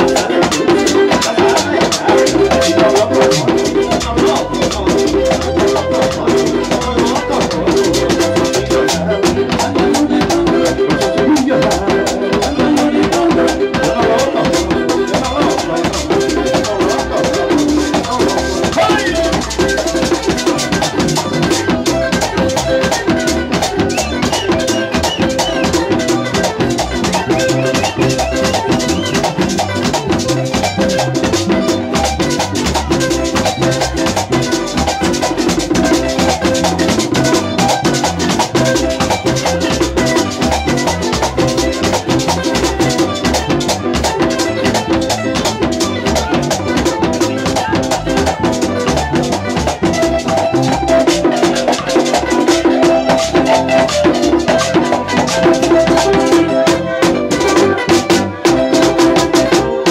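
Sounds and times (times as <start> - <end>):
drums and shakers beat: 0.0 - 59.9
latin dance music: 0.0 - 59.9.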